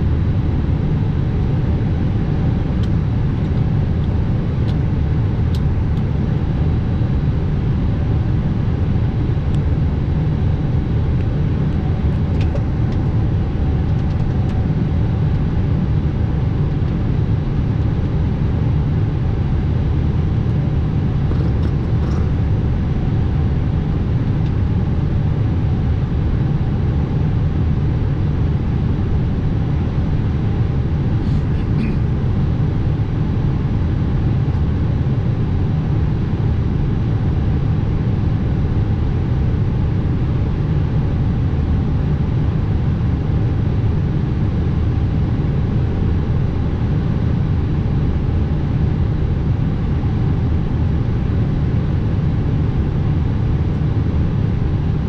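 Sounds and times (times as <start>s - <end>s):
air-conditioning and apu running: 0.0s - 55.0s.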